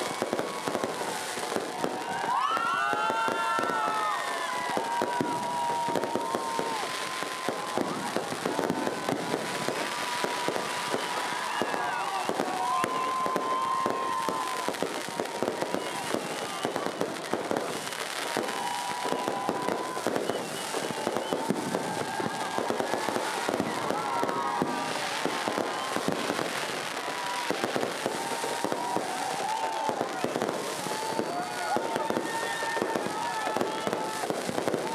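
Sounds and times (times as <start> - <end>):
fireworks crackling and popping: 0.0 - 34.9.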